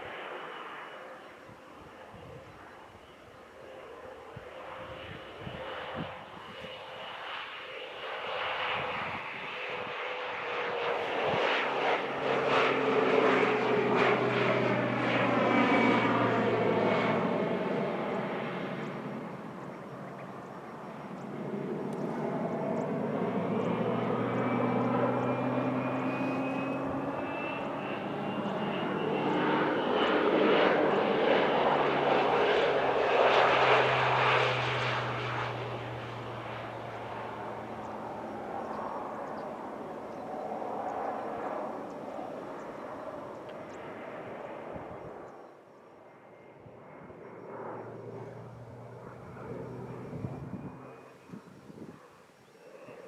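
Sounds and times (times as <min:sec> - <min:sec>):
turboprop plane passing low: 0:00.0 - 0:53.0.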